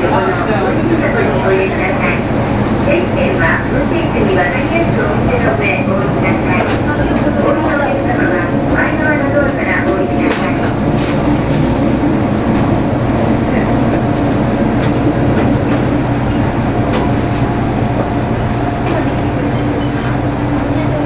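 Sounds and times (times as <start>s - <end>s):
railcar engine drone: 0.0s - 21.0s.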